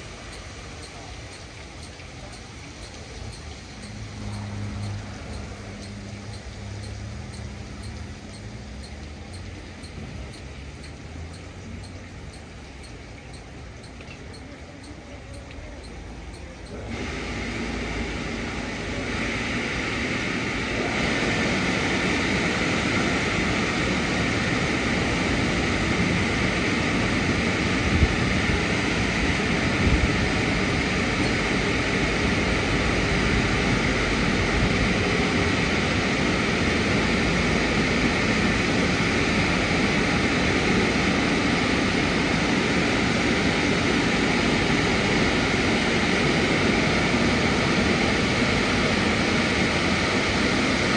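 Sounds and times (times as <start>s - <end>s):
car wash drying blowers: 0.0s - 50.9s.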